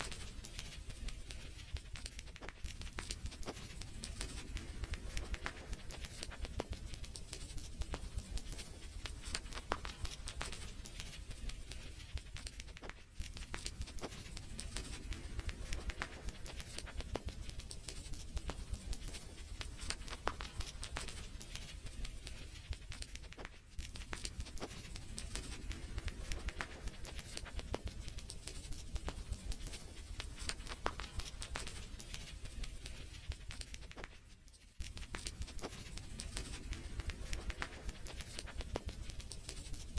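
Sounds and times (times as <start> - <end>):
wood fire crackling: 0.0 - 34.2.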